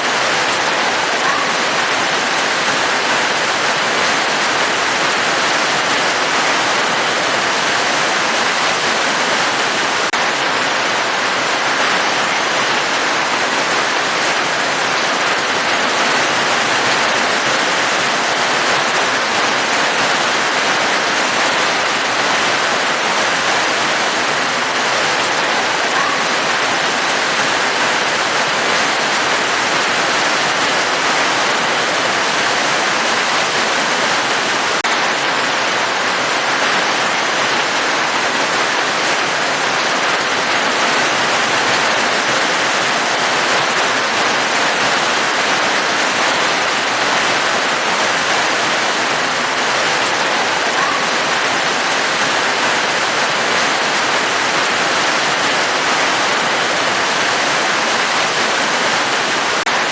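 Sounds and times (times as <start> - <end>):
steady dense rain: 0.0 - 59.9.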